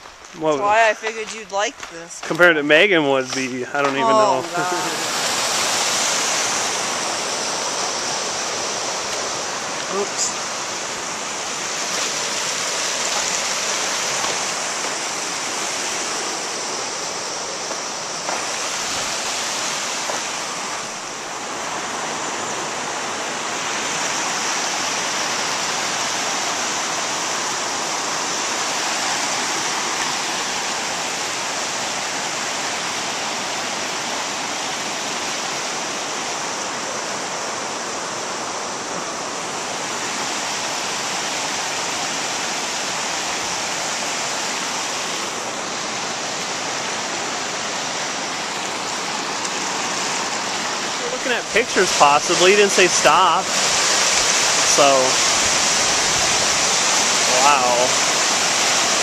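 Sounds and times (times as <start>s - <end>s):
creek and small waterfall rushing: 0.0s - 59.0s.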